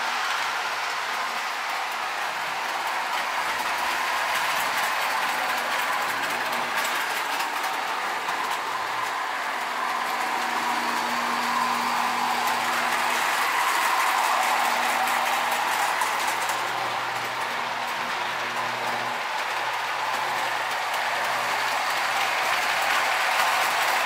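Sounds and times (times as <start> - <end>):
toy train running on track: 0.0 - 24.0.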